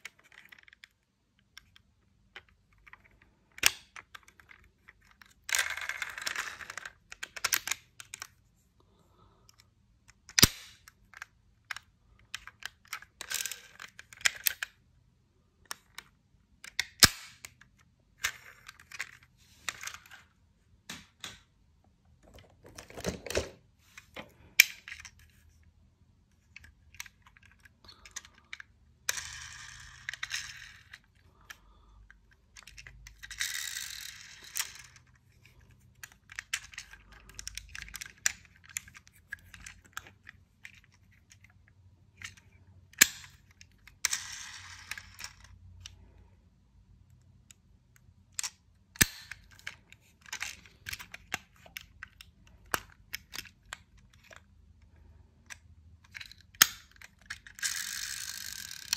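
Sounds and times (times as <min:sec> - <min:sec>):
toy cars clicking and clattering: 0:00.0 - 0:08.4, 0:09.4 - 0:14.8, 0:15.6 - 0:20.3, 0:26.4 - 0:46.2, 0:47.2 - 0:58.9.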